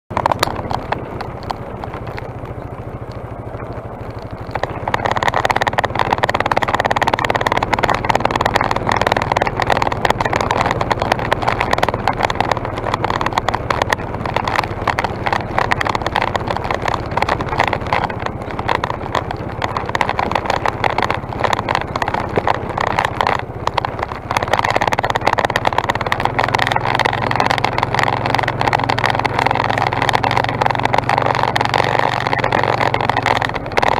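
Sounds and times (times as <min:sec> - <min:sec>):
atv engine running: 0:00.1 - 0:33.9
tyres on gravel and wind noise: 0:00.1 - 0:33.9.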